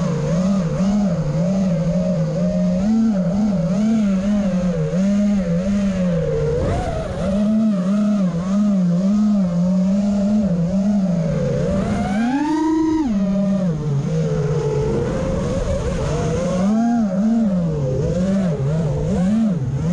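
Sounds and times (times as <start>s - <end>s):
drone propellers whining: 0.0s - 19.9s.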